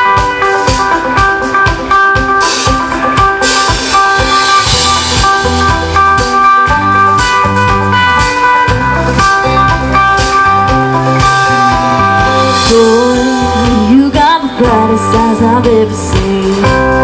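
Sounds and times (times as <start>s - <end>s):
acoustic and electric guitars: 0.0s - 17.0s
heavy bass notes: 0.0s - 17.0s
steady drum beat: 0.0s - 17.0s.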